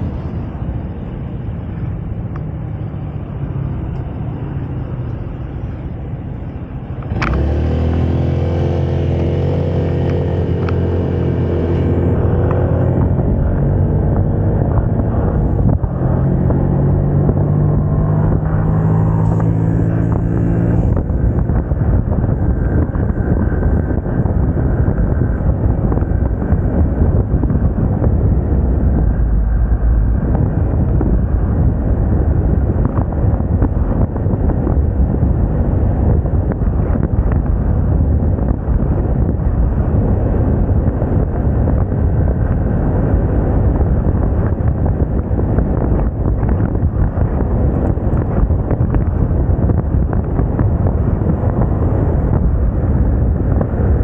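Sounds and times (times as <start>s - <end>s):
road noise: 0.0s - 54.0s
scooter engine and tyre rumble: 0.0s - 54.0s
wind rushing over microphone: 0.0s - 54.0s.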